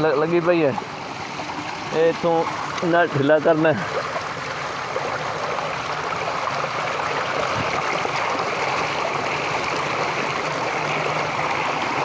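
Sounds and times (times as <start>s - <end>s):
water gushing from drain: 0.0s - 12.0s.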